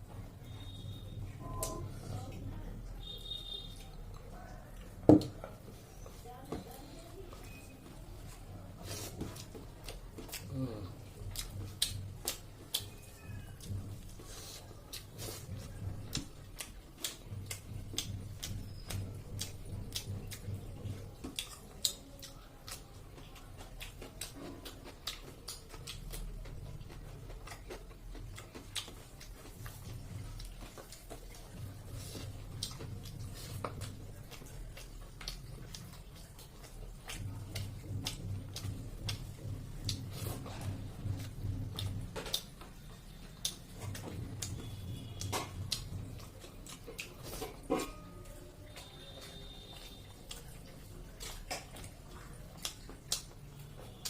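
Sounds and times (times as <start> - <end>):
close-up chewing with clicks: 7.3 - 54.0.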